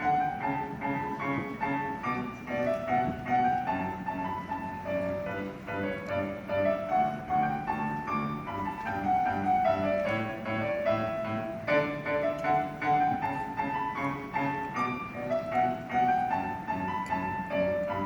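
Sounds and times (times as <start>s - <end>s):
solo piano piece: 0.0s - 18.0s.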